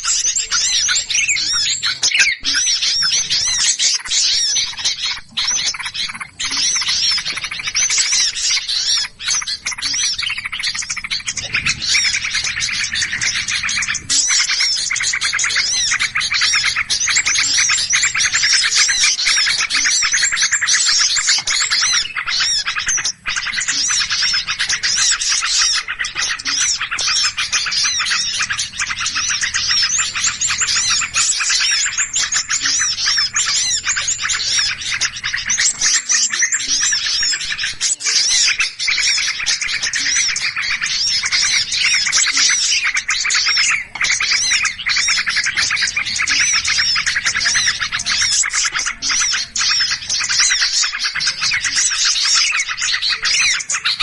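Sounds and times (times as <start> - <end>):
many small birds chirping: 0.0 - 54.0.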